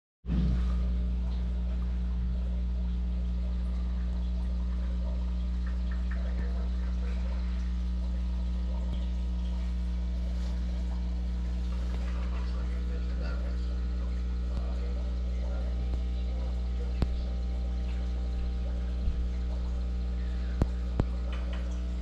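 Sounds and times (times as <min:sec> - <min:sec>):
bubbling and trickling water: 0:00.3 - 0:22.0
low electrical hum: 0:00.3 - 0:22.0.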